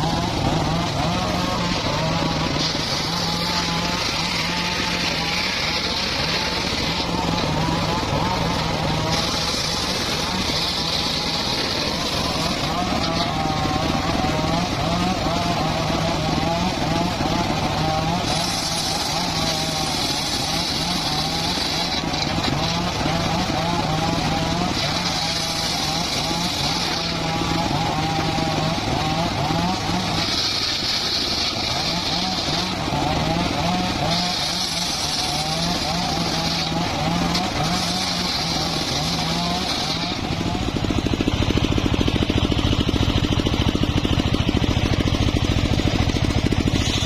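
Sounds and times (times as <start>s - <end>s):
saw blade hissing through wood: 0.0s - 43.2s, 44.6s - 47.0s
sawmill engine running: 0.0s - 47.0s.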